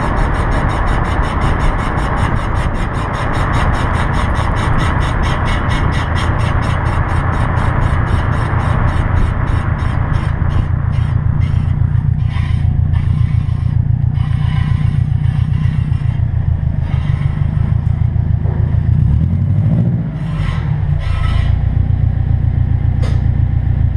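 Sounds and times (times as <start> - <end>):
car wheel grinding and scraping: 0.0 - 22.2
steady low drone: 0.0 - 23.9.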